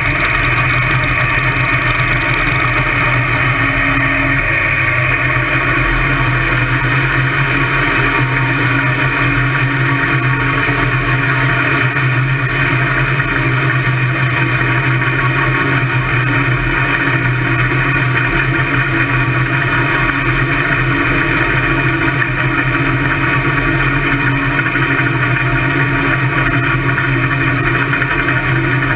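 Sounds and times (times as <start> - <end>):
dragster engine running at low revs: 0.0 - 28.9.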